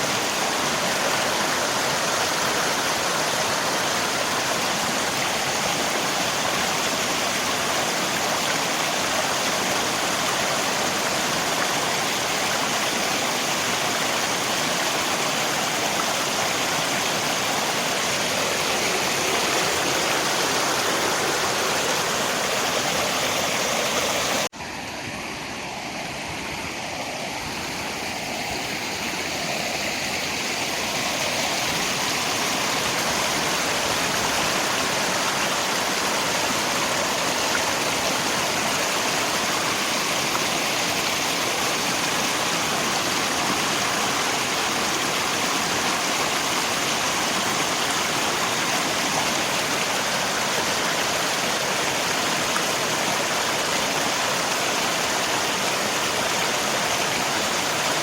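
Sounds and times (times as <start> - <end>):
rain: 0.0 - 24.5, 26.0 - 58.0
river water rushing: 0.0 - 58.0.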